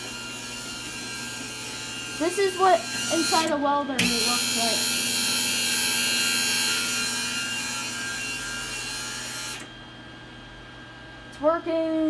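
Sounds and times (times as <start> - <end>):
wire-feed motor running: 0.0 - 12.0.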